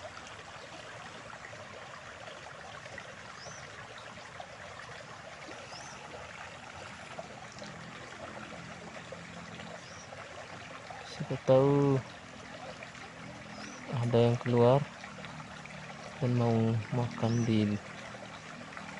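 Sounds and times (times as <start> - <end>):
running water: 0.0 - 18.9.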